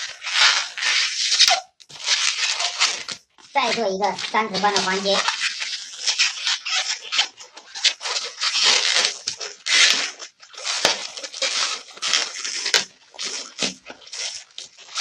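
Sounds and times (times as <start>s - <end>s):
rubber balloon rubbing: 0.0s - 15.0s.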